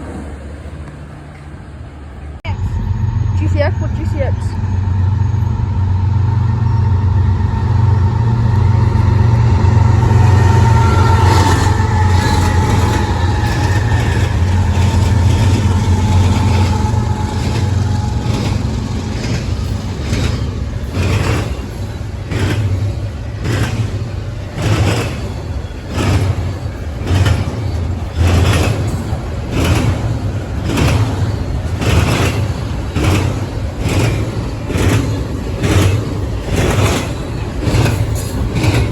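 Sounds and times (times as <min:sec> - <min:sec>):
diesel locomotive engine drone: 0:00.0 - 0:38.9
train wheels clicking over rail joints: 0:06.0 - 0:38.9.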